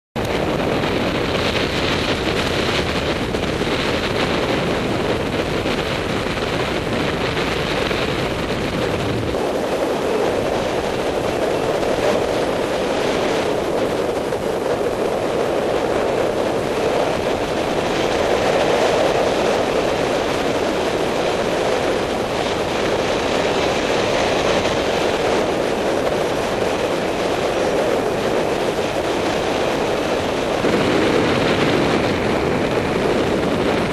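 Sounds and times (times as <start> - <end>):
wind rushing over microphone: 0.2 - 33.9.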